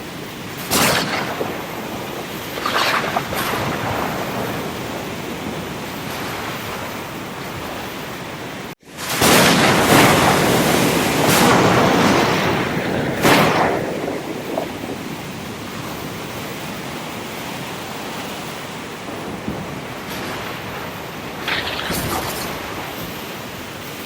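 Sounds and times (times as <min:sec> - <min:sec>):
ocean surf washing: 0:00.0 - 0:24.0
waves breaking: 0:00.0 - 0:24.0.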